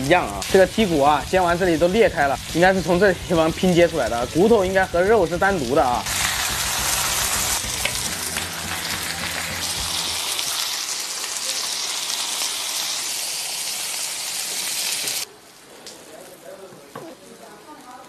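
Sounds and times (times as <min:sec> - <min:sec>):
steaks and eggs sizzling: 0:00.0 - 0:15.3.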